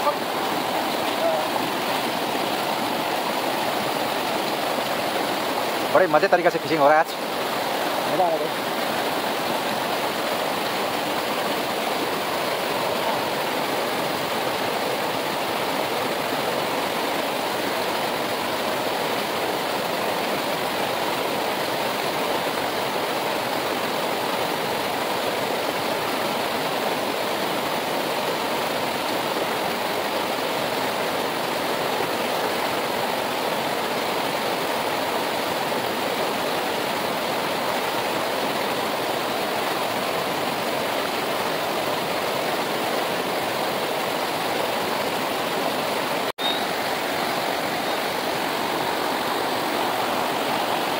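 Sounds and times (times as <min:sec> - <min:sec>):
river rushing over stones: 0:00.0 - 0:50.9.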